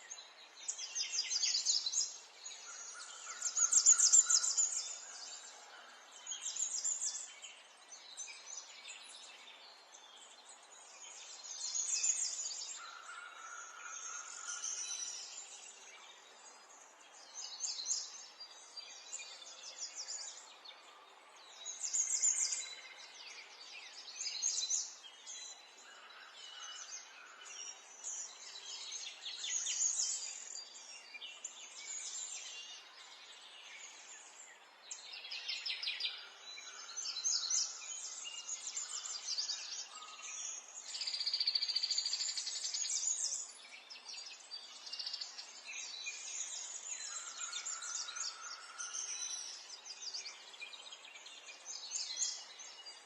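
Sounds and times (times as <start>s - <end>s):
faint outdoor background hiss: 0.0s - 53.0s
songbirds chirping and trilling: 0.0s - 53.0s.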